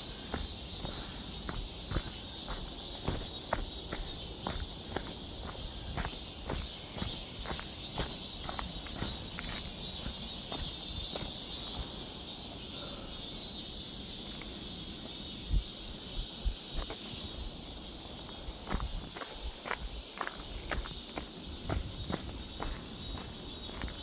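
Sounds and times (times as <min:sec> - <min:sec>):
footsteps on forest floor: 0:00.0 - 0:12.4, 0:16.2 - 0:17.4, 0:18.1 - 0:24.0
insects calling: 0:00.0 - 0:24.0.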